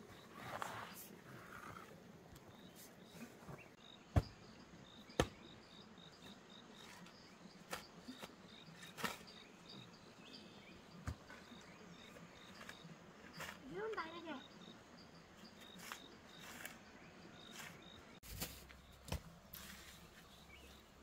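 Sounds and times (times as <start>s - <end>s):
insects chirping: 0.1s - 18.2s.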